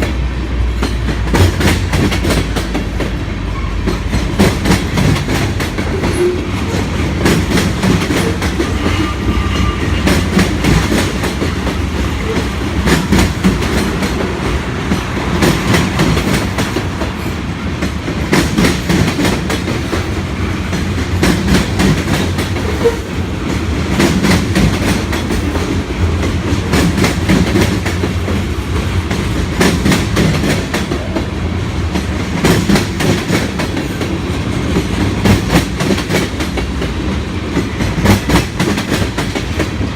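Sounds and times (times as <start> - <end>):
train wheels rumbling on rail: 0.0 - 39.9
wheels clacking over rail joints: 0.0 - 39.9.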